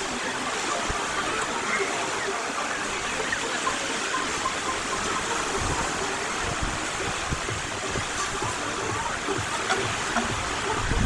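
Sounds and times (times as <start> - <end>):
surf breaking on a beach: 0.0 - 11.0.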